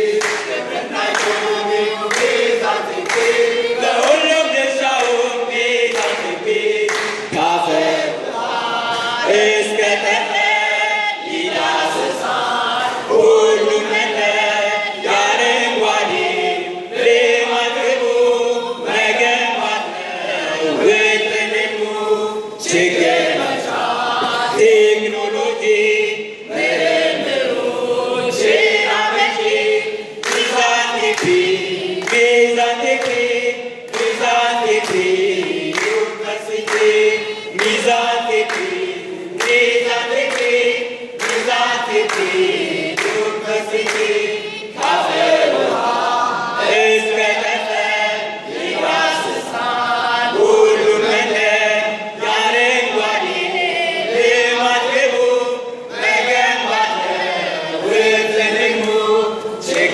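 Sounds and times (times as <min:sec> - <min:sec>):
sharp rhythmic beats: 0:00.0 - 0:21.8, 0:22.6 - 0:54.9
men singing in chorus: 0:00.0 - 0:59.9.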